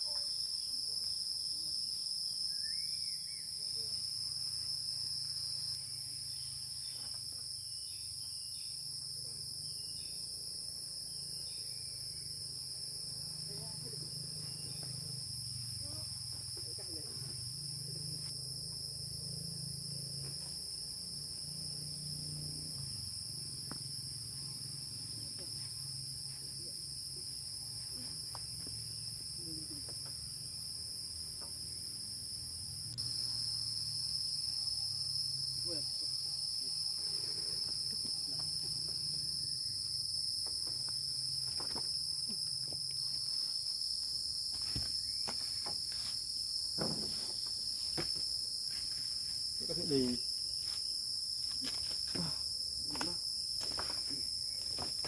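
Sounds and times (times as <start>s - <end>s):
insect chorus high trill: 0.0s - 55.0s.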